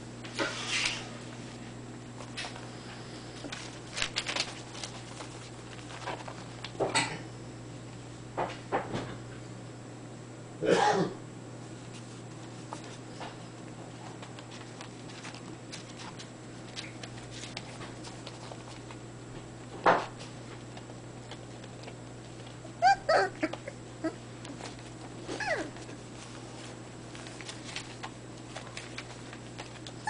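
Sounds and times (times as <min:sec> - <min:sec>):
puppies scuffling on paper: 0:00.2 - 0:07.0, 0:11.6 - 0:30.0.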